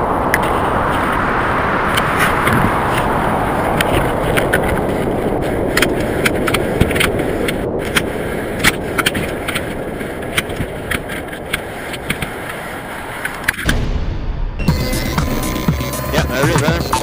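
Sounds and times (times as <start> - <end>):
wind noise on microphone: 0.0 - 14.7
low hum: 0.0 - 16.5.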